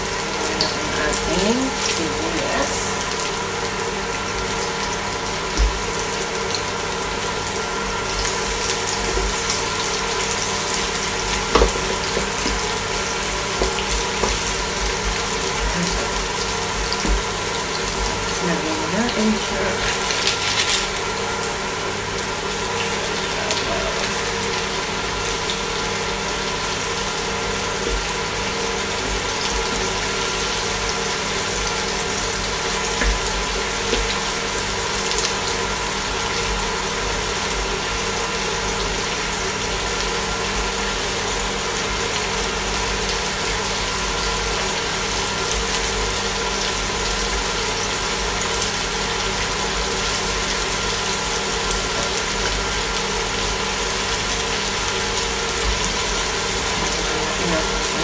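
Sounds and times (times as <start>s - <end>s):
food sizzling in a frying pan: 0.0s - 58.0s
induction cooktop humming: 0.0s - 58.0s.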